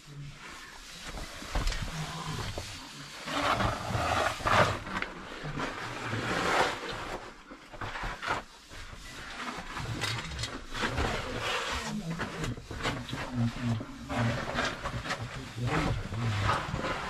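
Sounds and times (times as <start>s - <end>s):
gear scraping against rock: 1.1s - 17.0s.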